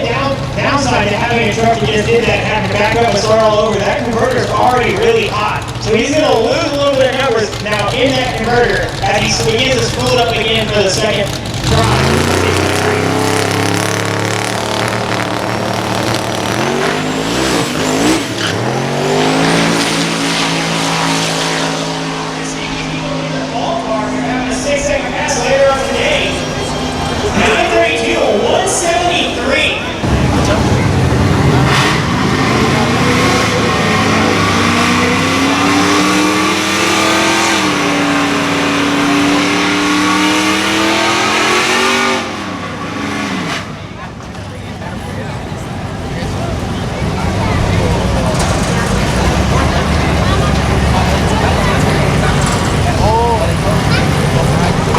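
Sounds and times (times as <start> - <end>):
truck engine at high revs: 0.0 - 54.9.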